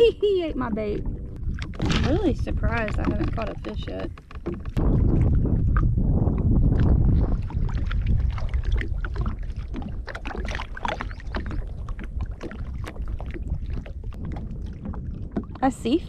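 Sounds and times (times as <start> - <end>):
low wind rumble: 0.0 - 16.0
waves lapping against kayak hull: 0.0 - 16.0.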